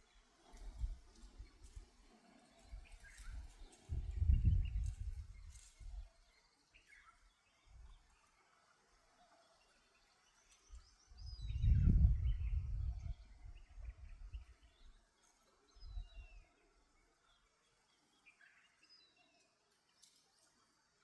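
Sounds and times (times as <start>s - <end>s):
birds chirping faintly: 0.0s - 21.0s.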